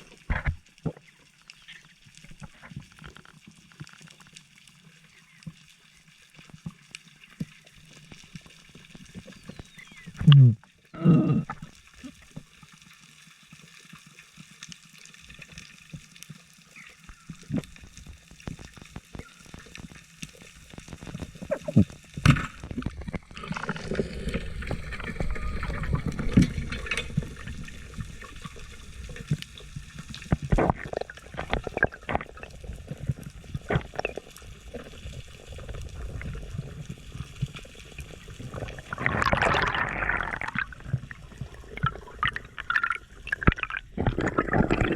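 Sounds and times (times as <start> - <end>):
underwater sloshing and gurgling: 0.0 - 44.9.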